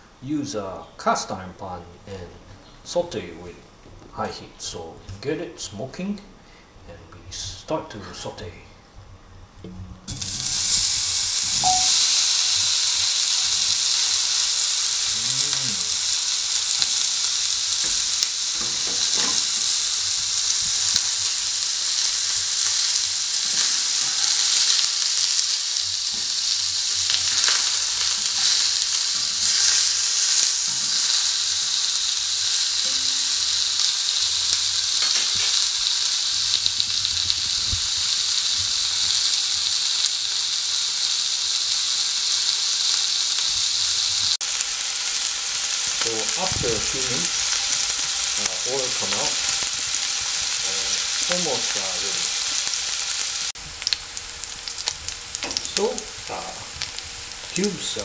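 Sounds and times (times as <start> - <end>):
meat sizzling in a pan: 10.1 - 58.0.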